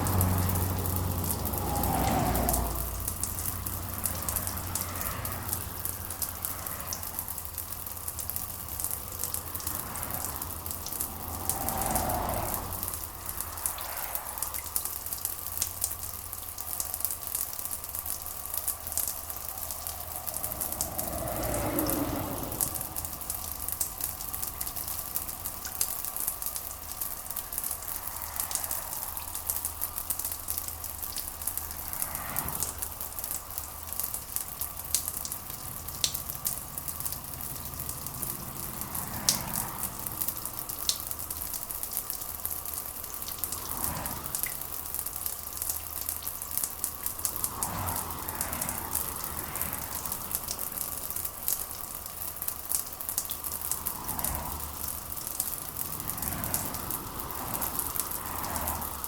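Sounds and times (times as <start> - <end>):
rain hissing: 0.0 - 59.0.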